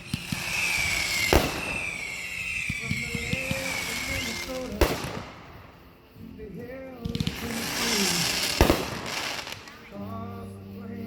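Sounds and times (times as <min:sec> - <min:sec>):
fireworks bangs: 0:00.0 - 0:10.2
fireworks crackling hiss: 0:00.0 - 0:11.0
people's voices: 0:00.0 - 0:11.0.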